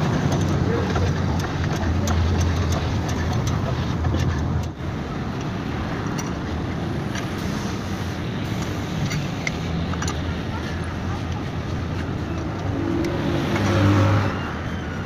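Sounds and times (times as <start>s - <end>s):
motor vehicle humming: 0.0s - 15.0s
outdoor background noise: 0.0s - 15.0s.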